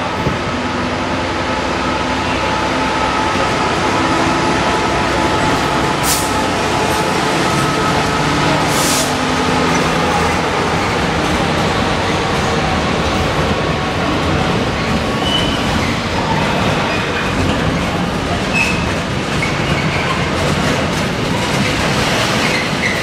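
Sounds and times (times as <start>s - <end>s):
diesel locomotive passing: 0.0s - 23.0s.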